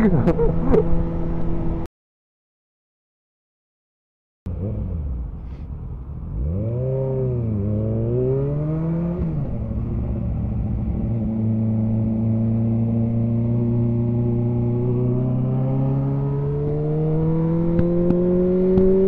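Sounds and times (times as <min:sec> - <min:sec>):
motorcycle engine revving: 0:00.0 - 0:01.9, 0:04.5 - 0:19.0.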